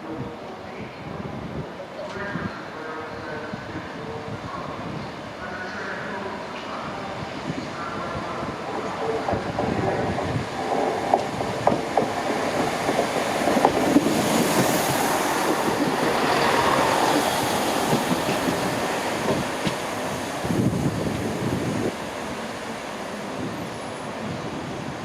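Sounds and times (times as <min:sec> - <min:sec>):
train running on track: 0:00.0 - 0:25.0.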